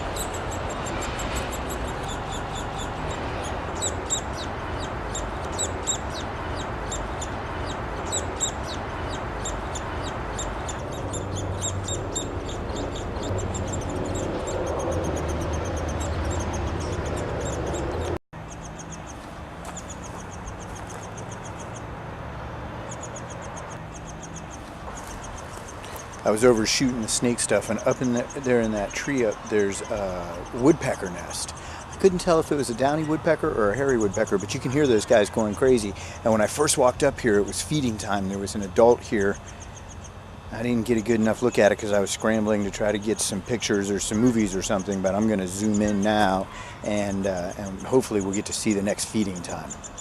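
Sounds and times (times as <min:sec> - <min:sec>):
woodpecker nestlings begging calls: 0:00.0 - 0:50.0.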